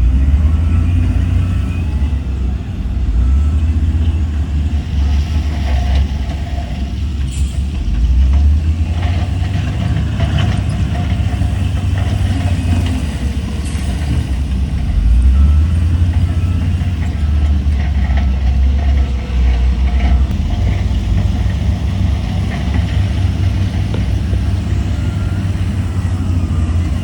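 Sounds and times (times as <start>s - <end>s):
heavy diesel engine rumbling: 0.0s - 27.0s.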